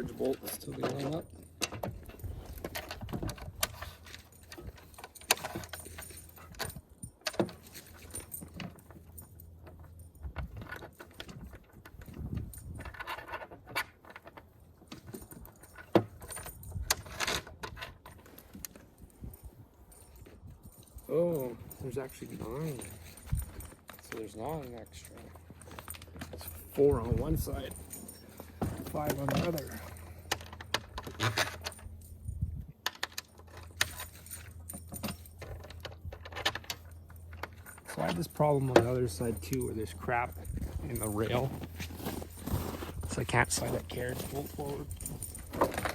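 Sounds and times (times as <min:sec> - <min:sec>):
metal bolts clinking and rattling: 0:00.0 - 0:45.9.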